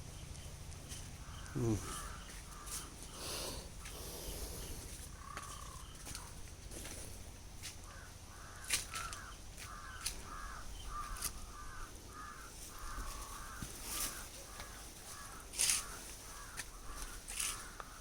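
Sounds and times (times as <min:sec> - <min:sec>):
bird calling: 0:00.2 - 0:06.4, 0:07.8 - 0:18.0.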